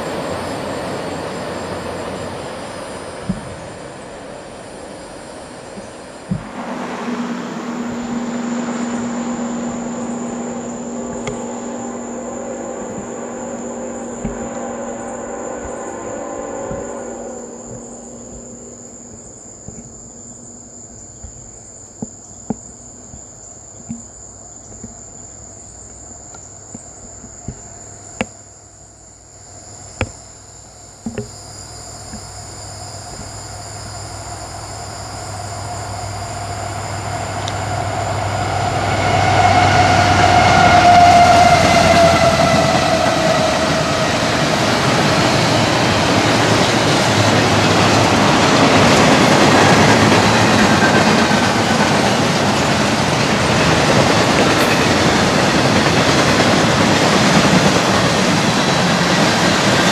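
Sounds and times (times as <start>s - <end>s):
freight train rumbling past: 0.0s - 22.0s, 32.4s - 59.9s
insects chirping: 0.0s - 59.9s.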